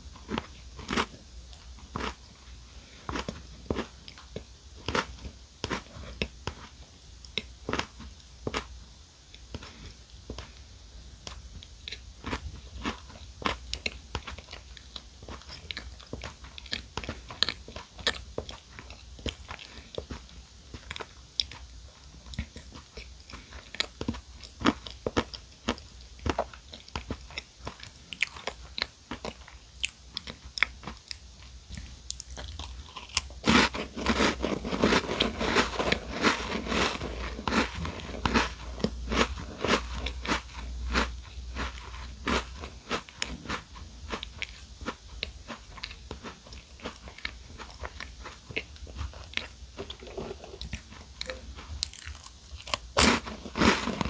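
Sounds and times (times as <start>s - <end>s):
chewing crunchy food: 0.1s - 10.6s, 11.2s - 54.0s.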